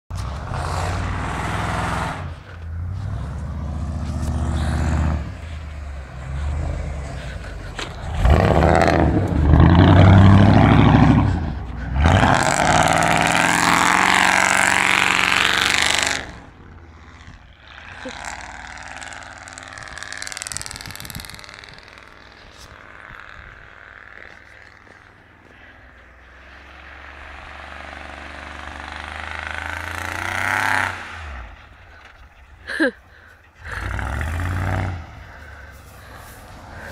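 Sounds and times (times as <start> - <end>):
truck engine revving: 0.1 - 36.9.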